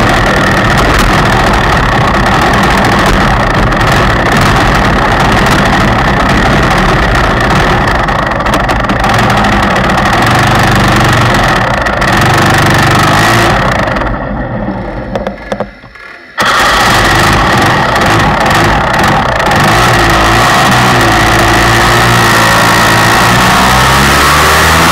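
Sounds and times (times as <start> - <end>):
go-kart engine running: 0.0 - 24.9.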